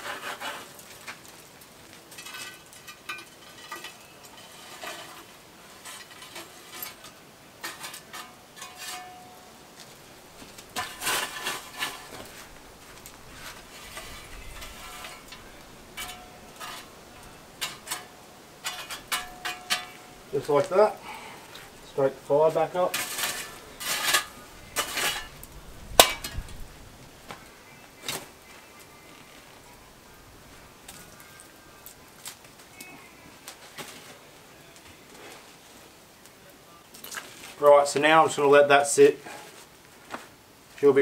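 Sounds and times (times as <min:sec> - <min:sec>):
metal shovel scraping coals: 0:00.0 - 0:41.0.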